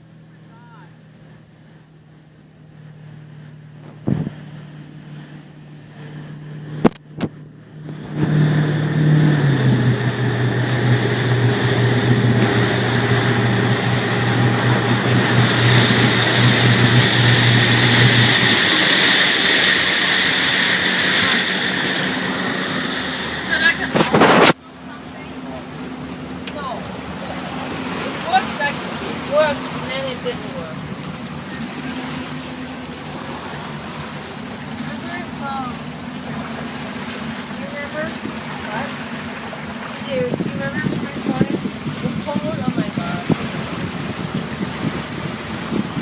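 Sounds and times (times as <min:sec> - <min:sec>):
motorboat engine: 0:00.0 - 0:46.0
rushing water noise: 0:00.0 - 0:46.0.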